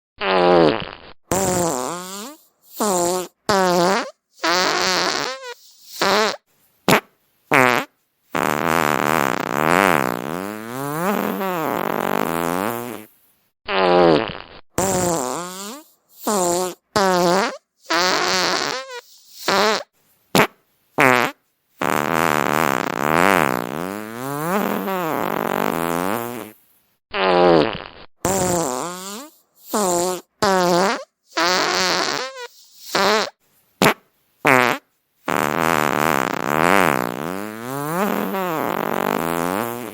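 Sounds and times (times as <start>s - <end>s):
fart sounds: 0.2s - 39.9s.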